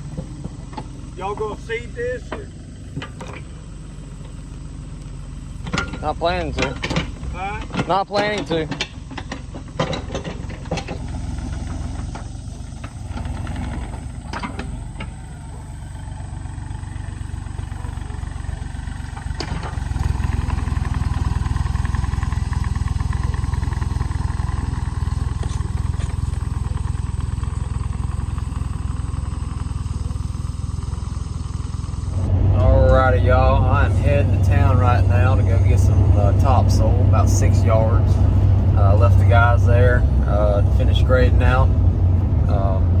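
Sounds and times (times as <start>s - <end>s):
engine rumbling: 0.0s - 43.0s.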